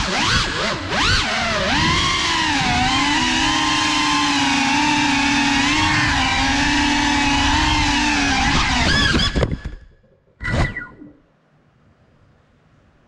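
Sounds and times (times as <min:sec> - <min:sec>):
drone propellers whining: 0:00.0 - 0:11.2.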